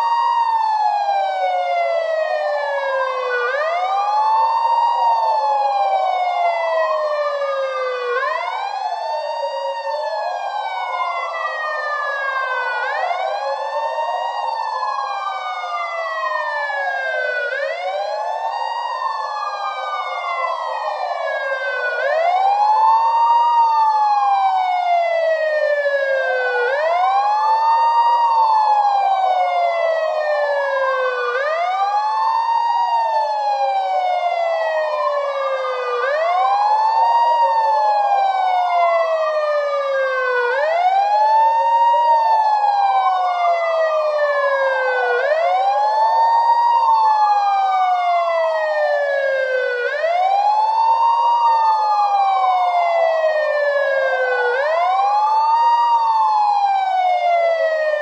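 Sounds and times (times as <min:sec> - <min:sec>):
police siren wailing: 0:00.0 - 0:58.0
second siren wail: 0:00.0 - 0:58.0.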